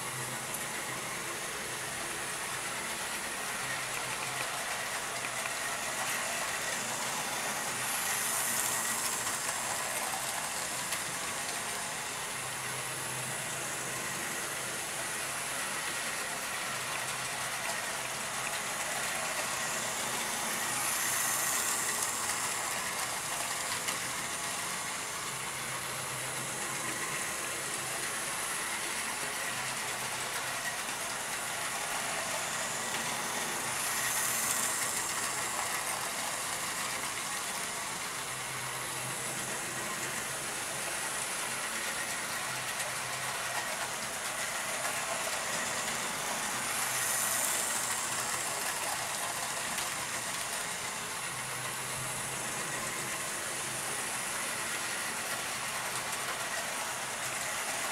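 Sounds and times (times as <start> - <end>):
model train motor whirring: 0.0 - 57.9.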